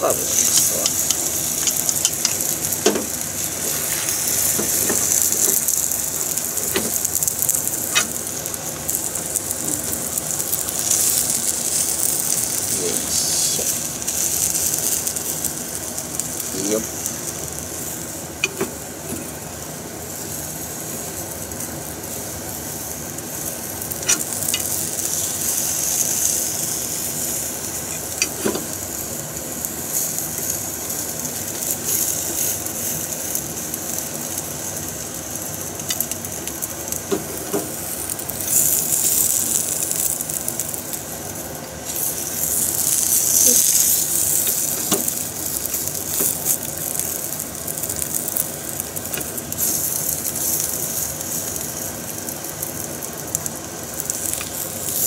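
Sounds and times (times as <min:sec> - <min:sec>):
egg sizzling in pan: 0:00.0 - 0:55.0.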